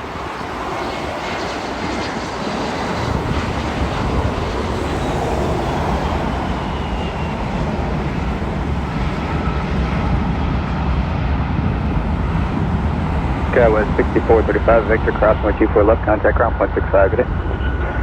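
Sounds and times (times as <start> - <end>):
jet airliner passing: 0.0 - 18.0.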